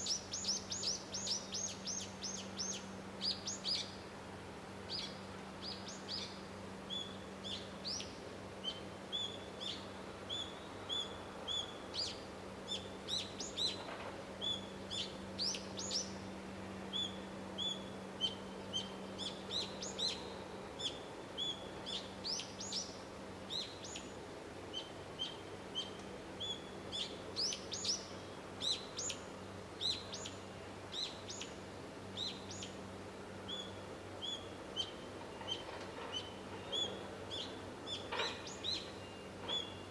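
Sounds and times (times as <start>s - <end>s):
small birds chirping: 0.0s - 4.0s, 4.8s - 16.3s, 16.9s - 39.9s.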